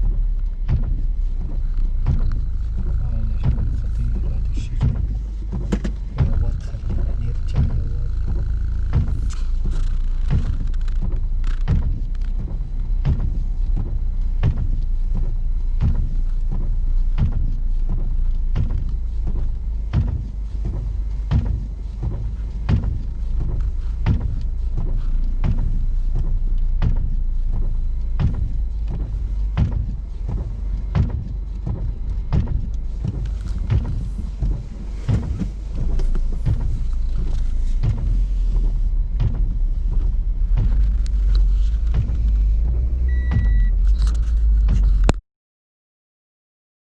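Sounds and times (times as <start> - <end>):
car road and engine rumble: 0.0 - 45.2
irregular knocks and clicks: 0.0 - 45.2.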